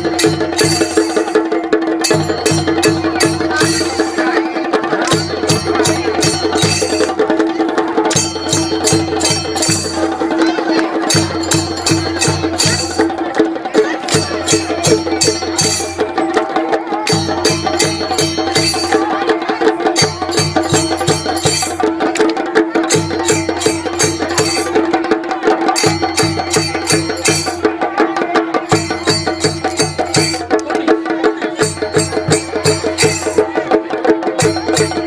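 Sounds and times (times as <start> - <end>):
drum ensemble beating fast rhythm: 0.0 - 35.0.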